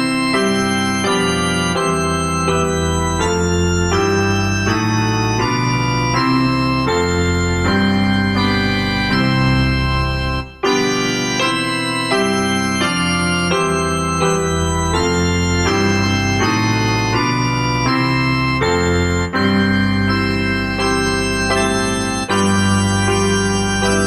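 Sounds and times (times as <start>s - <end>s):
organ playing held chords: 0.0s - 24.0s.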